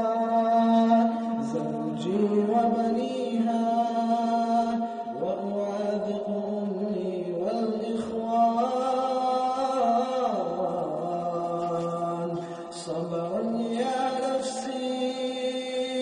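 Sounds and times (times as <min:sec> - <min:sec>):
man chanting wordlessly: 0:00.0 - 0:16.0.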